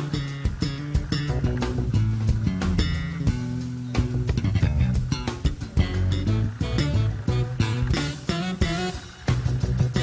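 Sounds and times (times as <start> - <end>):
guitar and bass music with beat: 0.0 - 10.0.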